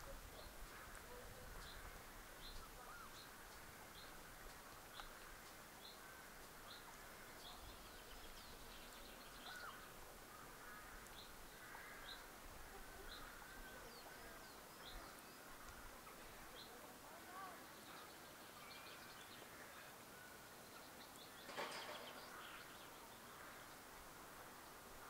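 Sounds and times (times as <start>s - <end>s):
birds twittering: 0.0s - 25.0s.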